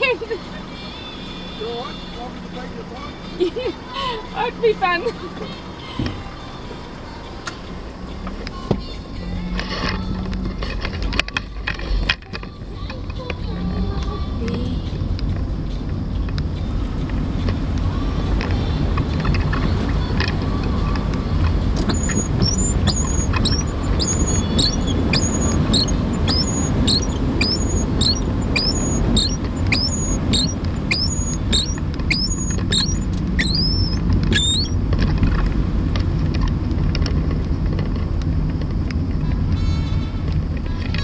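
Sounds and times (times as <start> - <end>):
car road rumble: 0.0 - 41.0
tyres on wet road: 0.0 - 41.0
windscreen wipers squeaking: 4.4 - 41.0.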